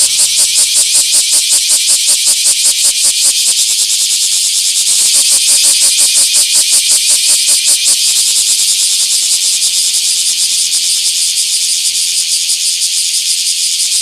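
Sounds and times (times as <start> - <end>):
cicada rasping pulsed call: 0.0 - 14.0.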